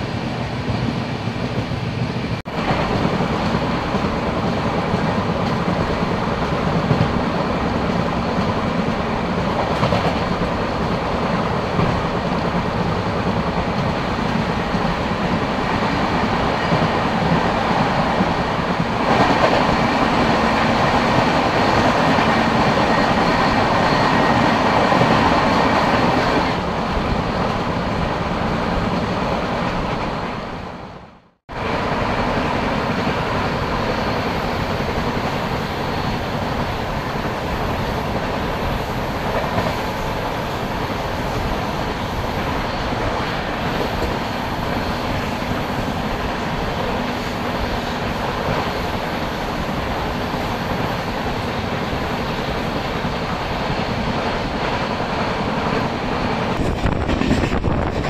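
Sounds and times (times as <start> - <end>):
passing train coaches: 0.0 - 58.0
train running noise: 0.0 - 58.0.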